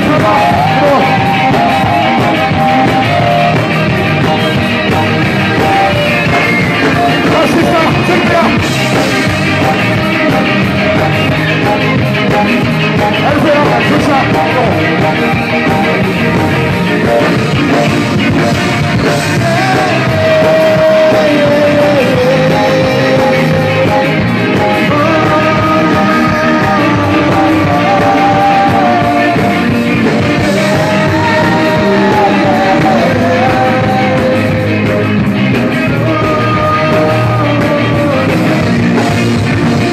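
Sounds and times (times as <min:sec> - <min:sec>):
drums: 0:00.0 - 0:39.9
electric guitars: 0:00.0 - 0:39.9
person singing: 0:00.0 - 0:39.9.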